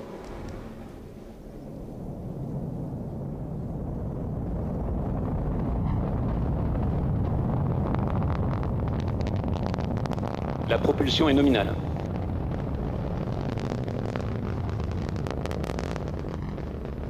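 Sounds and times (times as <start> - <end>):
rocket engine crackling: 0.0 - 17.0
rocket engine deep rumble: 0.0 - 17.0.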